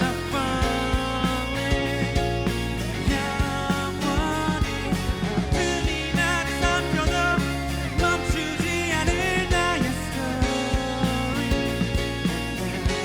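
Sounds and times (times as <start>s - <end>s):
drums beat: 0.0s - 13.0s
rock band instrumental: 0.0s - 13.0s.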